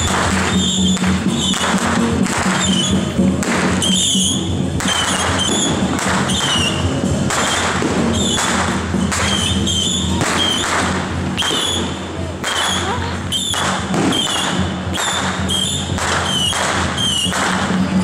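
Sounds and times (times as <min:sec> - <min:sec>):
drum and cymbal strikes: 0:00.0 - 0:18.0.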